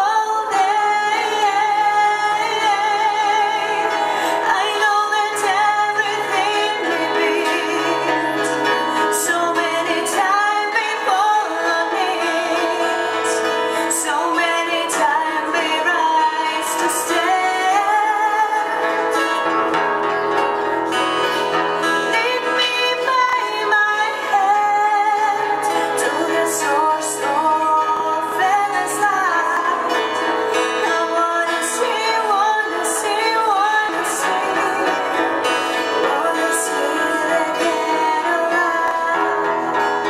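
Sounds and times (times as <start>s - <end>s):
guitar and bass: 0.0s - 40.0s
person singing: 0.0s - 40.0s.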